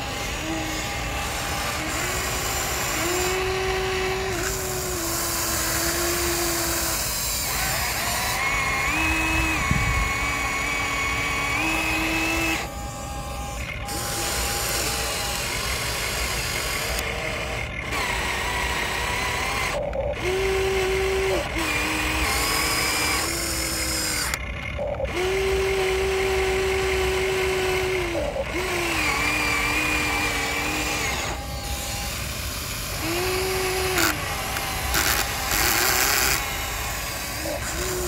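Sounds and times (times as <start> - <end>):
small electric motors whining: 0.0 - 38.0.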